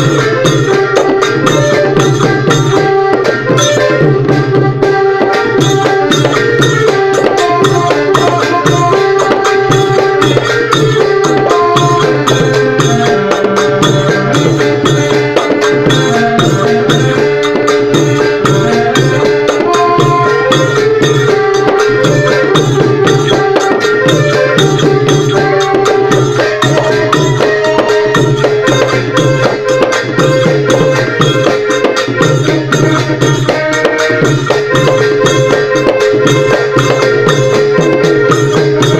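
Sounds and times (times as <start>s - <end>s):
held melody line: 0.0s - 38.9s
long-drum band drumming: 0.0s - 38.9s.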